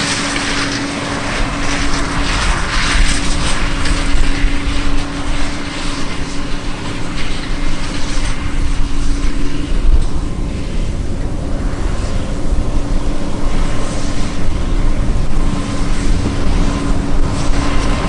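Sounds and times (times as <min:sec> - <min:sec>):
combine harvester diesel engine droning: 0:00.0 - 0:18.0
rushing machine noise: 0:00.0 - 0:18.0.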